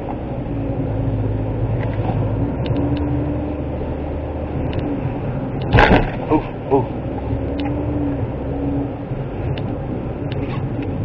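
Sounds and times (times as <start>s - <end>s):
car engine running: 0.0s - 11.0s
tyre noise on wet road: 0.0s - 11.0s.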